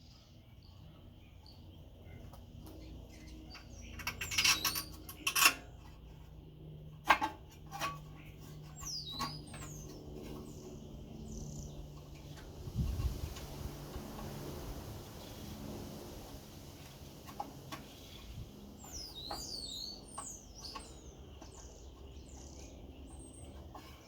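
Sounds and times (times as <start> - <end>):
birds chirping: 0.0 - 6.8, 8.0 - 13.4, 16.7 - 24.0.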